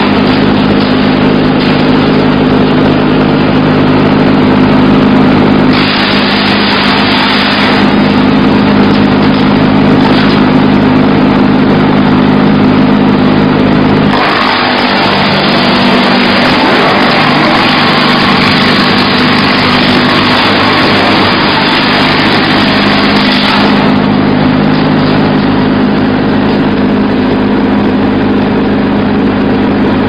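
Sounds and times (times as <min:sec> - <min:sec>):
wood chipper running: 0:00.0 - 0:30.0.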